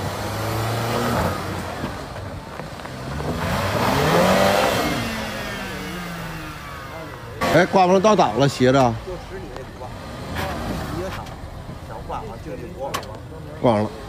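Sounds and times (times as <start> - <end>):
car engine revving under load: 0.0 - 14.0.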